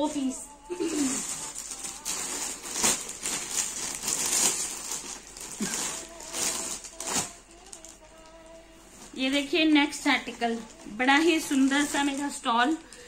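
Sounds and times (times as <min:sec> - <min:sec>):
fabric rustling and crinkling: 0:00.8 - 0:13.0.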